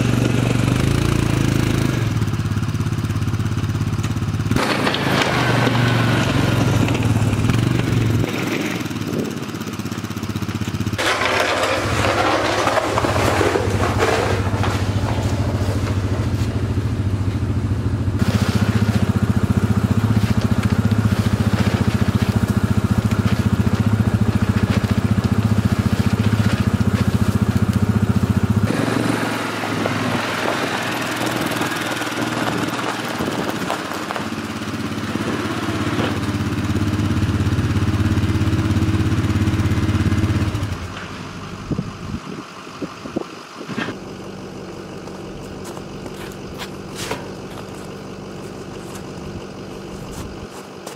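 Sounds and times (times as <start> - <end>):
atv engine running: 0.0 - 50.9
crunching snow: 4.5 - 40.9, 43.6 - 50.9.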